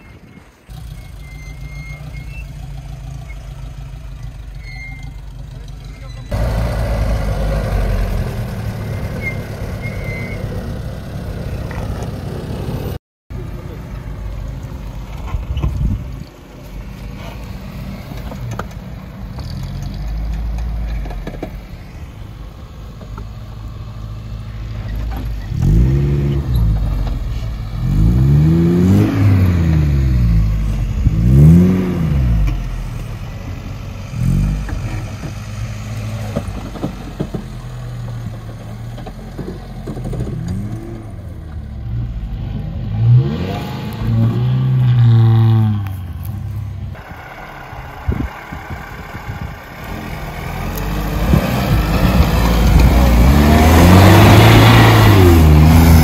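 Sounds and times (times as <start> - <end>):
off-road engines revving: 0.0 - 56.0.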